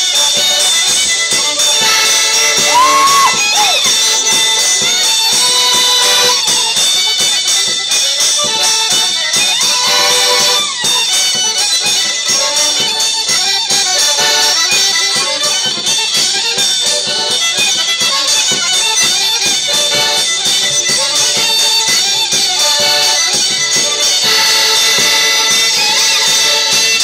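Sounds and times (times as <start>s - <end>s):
fiddle: 0.0s - 27.0s
piano accordion: 0.0s - 27.0s.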